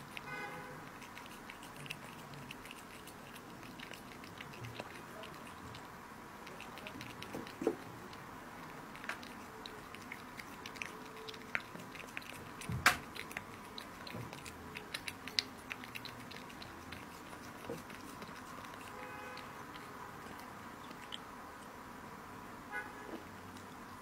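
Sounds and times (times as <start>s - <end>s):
cat chewing meat: 0.0s - 22.0s, 23.0s - 24.0s.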